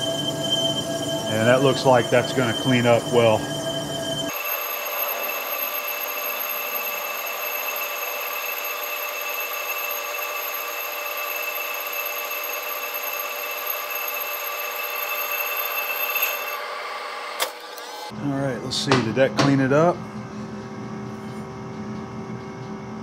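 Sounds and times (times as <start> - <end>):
lathe high-pitched ringing whine: 0.0 - 23.0.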